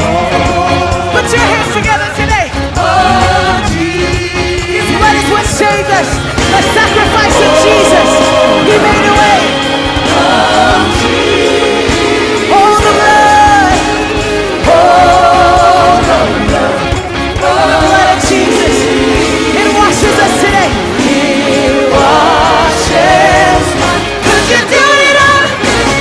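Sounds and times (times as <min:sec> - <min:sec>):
voices singing with vibrato: 0:00.0 - 0:26.0
worship band music: 0:00.0 - 0:26.0.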